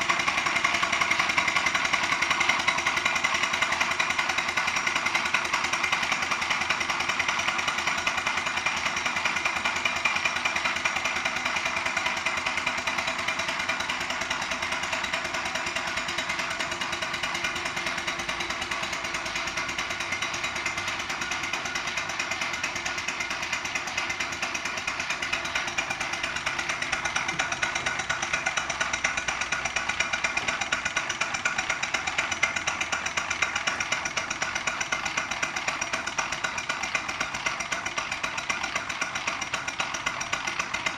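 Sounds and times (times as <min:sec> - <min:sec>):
steam engine exhaust chuffing: 0:00.0 - 0:40.9.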